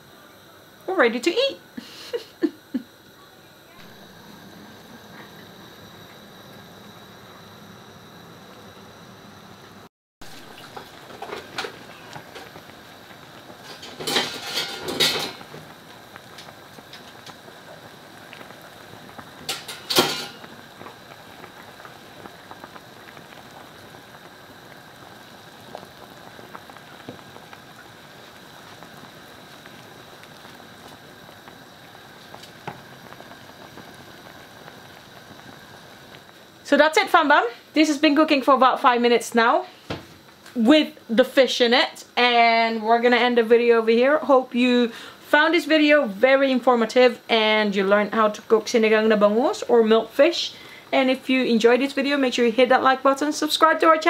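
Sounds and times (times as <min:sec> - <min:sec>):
broth bubbling in pot: 0:00.0 - 0:54.0.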